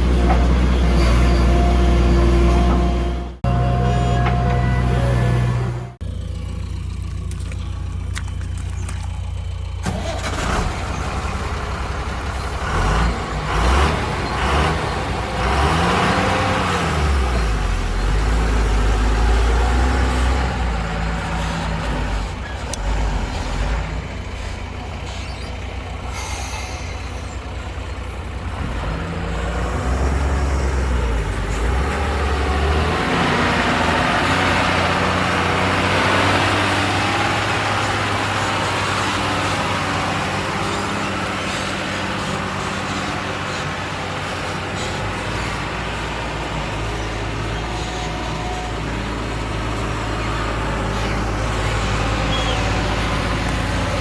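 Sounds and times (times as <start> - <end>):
diesel engine revving under load: 0.0 - 54.0.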